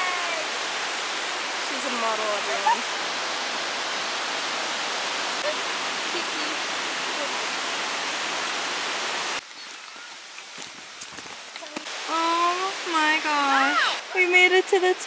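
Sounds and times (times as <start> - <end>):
river rushing over boulders: 0.0 - 15.0.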